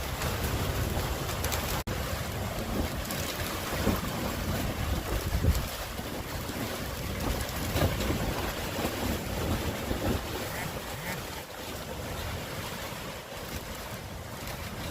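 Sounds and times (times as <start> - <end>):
gusty wind buffeting microphone: 0.0 - 14.9.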